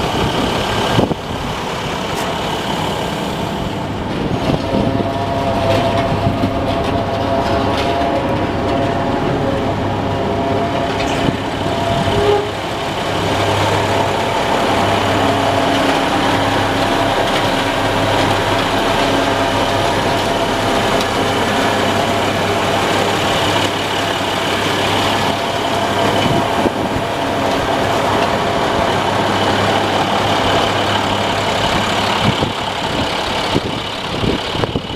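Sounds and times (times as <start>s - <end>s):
diesel truck engine running: 0.0s - 34.9s
held engine tones: 0.0s - 34.9s.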